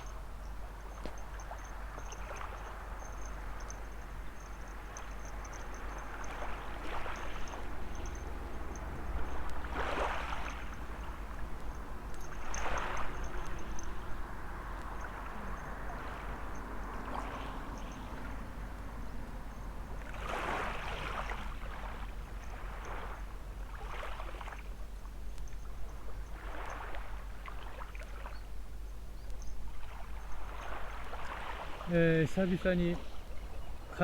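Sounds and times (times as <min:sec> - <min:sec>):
small waves washing onto sand: 0:00.0 - 0:25.5, 0:26.1 - 0:28.4, 0:29.7 - 0:34.0.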